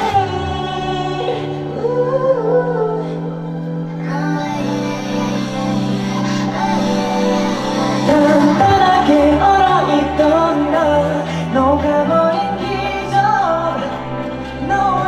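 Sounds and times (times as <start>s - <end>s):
male vocal group singing: 0.0s - 15.0s
pop backing track with bass: 0.0s - 15.0s.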